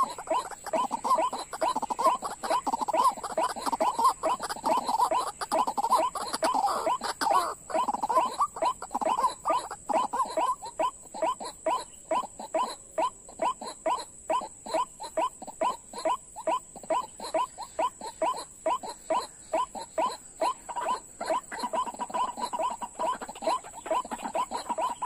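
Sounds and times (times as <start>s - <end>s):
bird croaking call: 0.0s - 25.0s.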